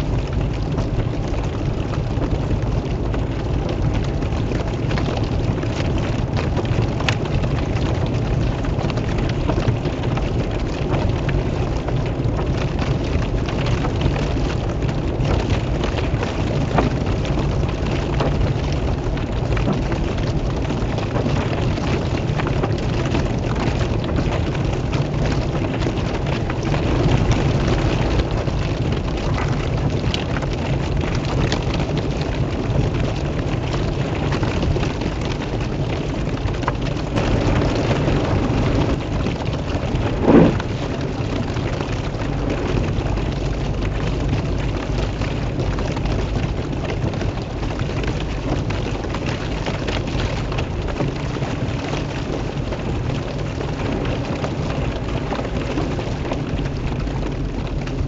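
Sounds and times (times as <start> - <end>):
steady low rumble: 0.0 - 47.4
pouring rain: 0.0 - 58.0.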